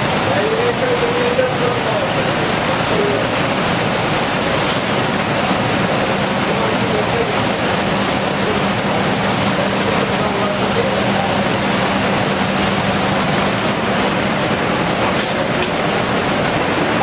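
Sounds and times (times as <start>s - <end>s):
steady low hum: 1.8s - 17.0s.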